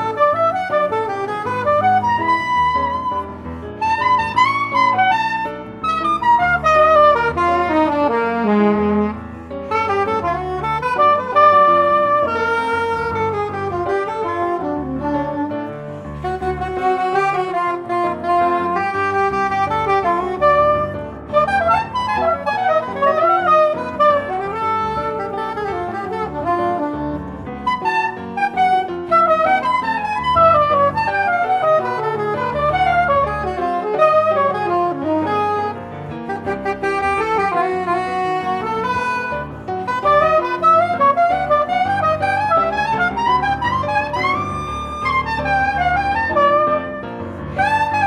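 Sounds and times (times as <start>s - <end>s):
soprano saxophone jazz: 0.0s - 48.0s.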